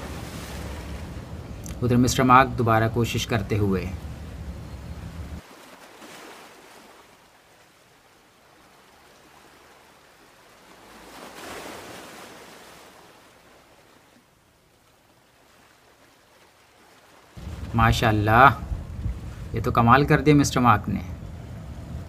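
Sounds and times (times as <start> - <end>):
sea waves: 0.0 - 22.0
wind: 0.0 - 22.0.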